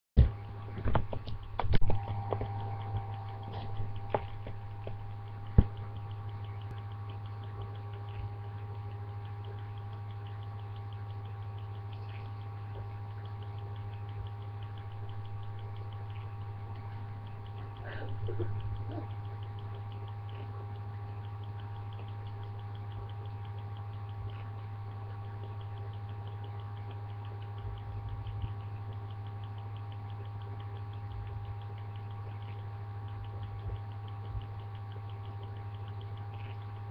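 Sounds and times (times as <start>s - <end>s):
sharp clicks and knocks: 0.2s - 36.9s
steady low hum: 0.2s - 36.9s.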